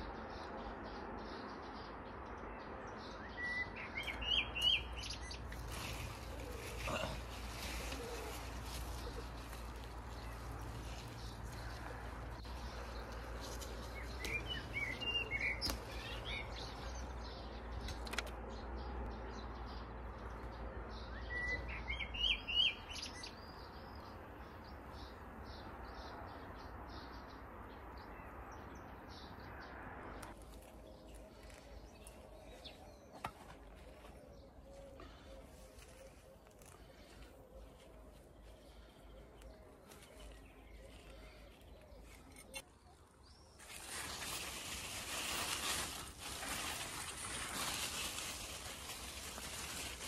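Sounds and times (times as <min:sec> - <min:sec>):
small birds chirping: 0:00.0 - 0:50.0
steady outdoor hiss: 0:00.0 - 0:50.0.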